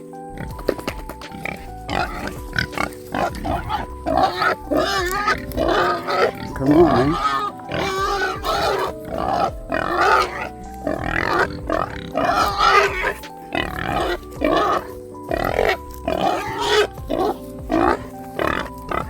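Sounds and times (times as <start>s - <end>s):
background music with held notes: 0.0s - 19.0s
pigs squealing and grunting: 0.4s - 19.0s.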